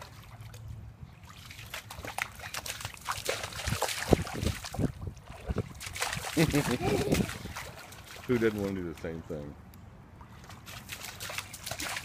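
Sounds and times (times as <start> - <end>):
bare feet splashing through water: 0.0 - 9.3, 10.1 - 12.0.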